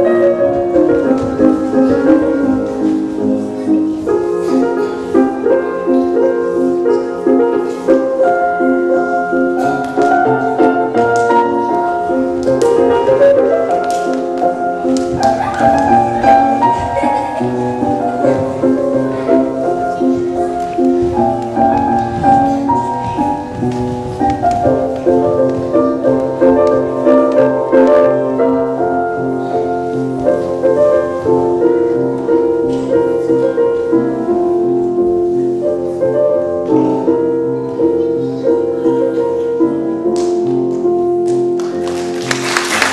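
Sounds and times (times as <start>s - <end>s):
piano-like instrumental music: 0.0s - 42.9s.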